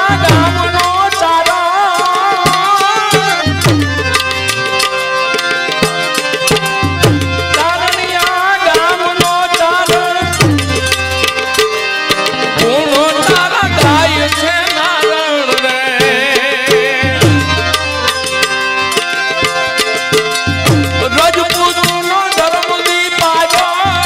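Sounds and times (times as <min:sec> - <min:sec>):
ornamented melody line: 0:00.0 - 0:24.0.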